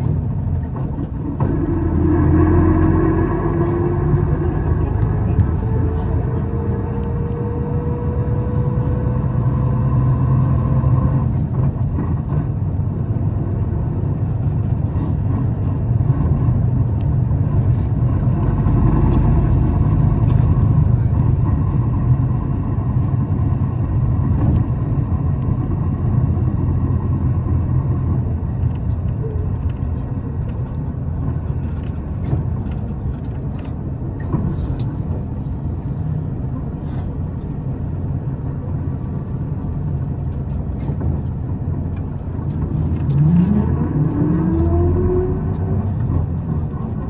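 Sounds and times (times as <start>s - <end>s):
diesel bus engine drone: 0.0s - 47.0s
road rumble: 0.0s - 47.0s.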